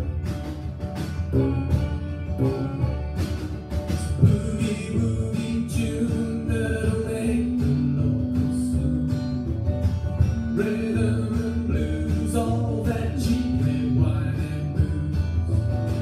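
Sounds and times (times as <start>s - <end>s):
acoustic blues band playing: 0.0s - 16.0s.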